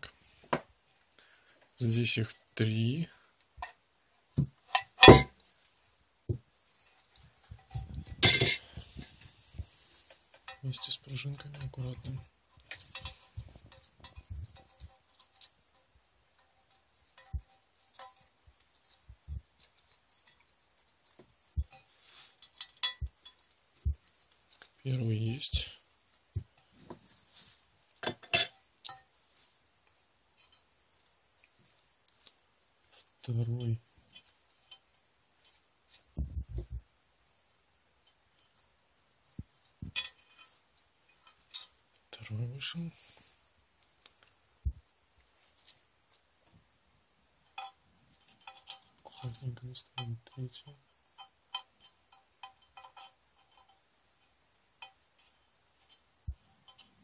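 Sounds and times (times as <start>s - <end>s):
faint clicks and metallic taps: 4.4s - 24.8s, 25.8s - 33.4s, 34.1s - 36.8s, 38.0s - 42.2s, 43.2s - 46.7s, 47.4s - 57.0s.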